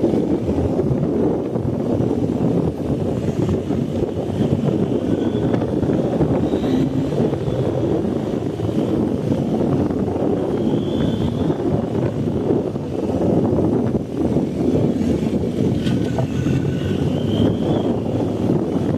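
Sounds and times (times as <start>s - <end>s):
motorcycle engine rumbling: 0.0s - 18.9s
wind noise on microphone: 0.0s - 18.9s.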